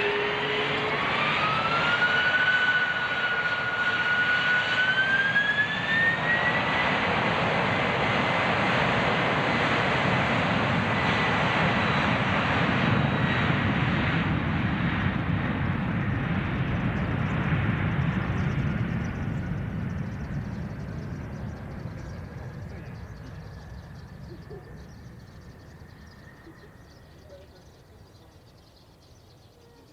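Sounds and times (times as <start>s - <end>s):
jet engines roaring with fan whine: 0.0s - 29.9s.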